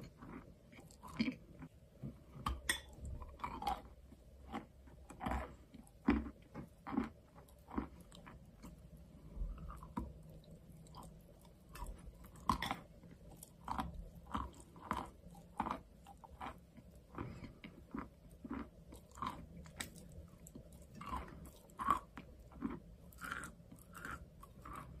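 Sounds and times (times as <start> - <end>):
chalk being chewed crunching: 3.2 - 8.8, 9.6 - 25.0.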